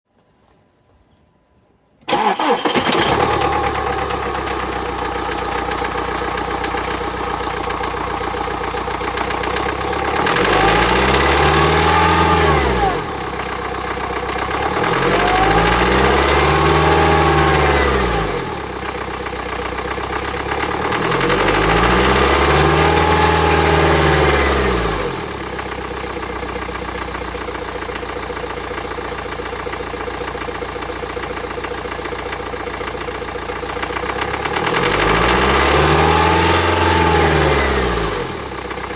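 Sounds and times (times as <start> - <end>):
diesel engine idling and revving: 2.1 - 38.9.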